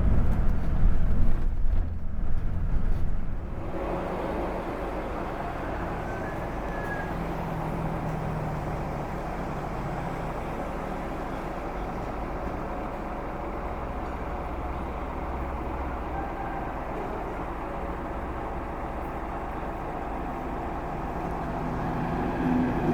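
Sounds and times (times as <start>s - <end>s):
coach engine and road noise: 0.0s - 22.9s.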